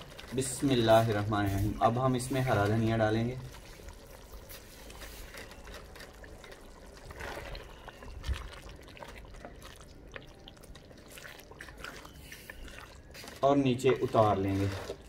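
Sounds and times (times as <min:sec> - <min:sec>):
spatula stirring thick gravy: 0:00.0 - 0:15.0.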